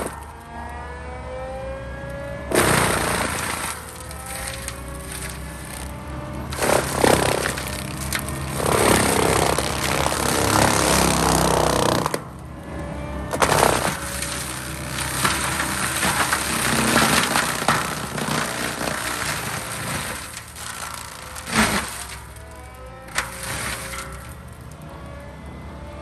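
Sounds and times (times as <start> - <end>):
mulcher grinding brush: 0.0 - 0.4, 2.1 - 12.4, 13.2 - 25.1
loader engine running: 0.0 - 26.0.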